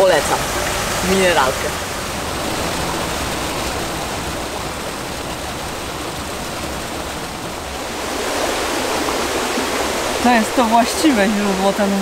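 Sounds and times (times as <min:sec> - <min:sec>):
small waterfall splashing into pool: 0:00.0 - 0:12.0.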